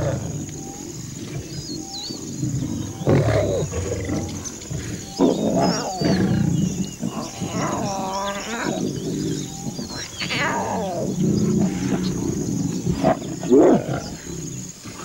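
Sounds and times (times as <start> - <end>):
faint bird chirps: 0.0 - 14.3
lion calls: 0.0 - 15.0
lions growling: 0.0 - 15.0.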